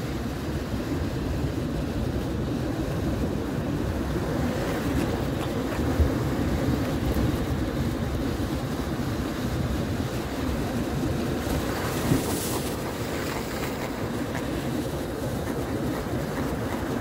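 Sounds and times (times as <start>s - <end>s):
wind buffeting microphone: 0.0s - 17.0s
surf breaking on rocky shore: 2.3s - 17.0s.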